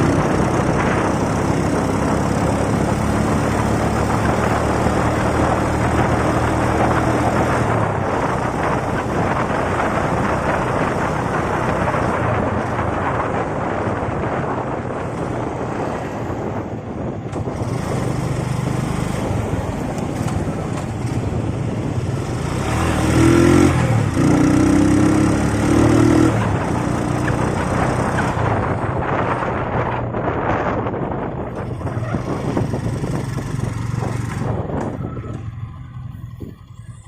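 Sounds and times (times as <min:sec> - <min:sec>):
motorcycle engine running: 0:00.0 - 0:37.0
wind and road rush: 0:00.0 - 0:37.0.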